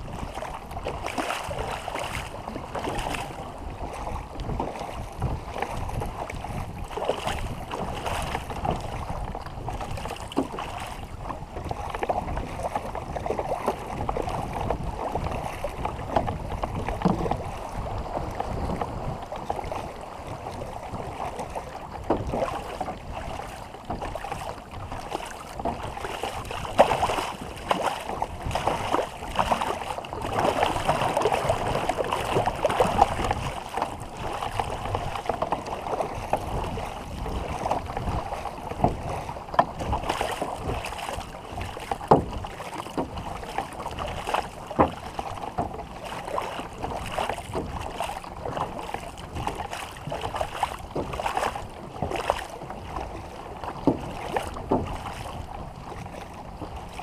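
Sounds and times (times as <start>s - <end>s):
paddles splashing in water: 0.0s - 57.0s
water washing around boat: 0.0s - 57.0s
knocks on boat: 4.0s - 57.0s.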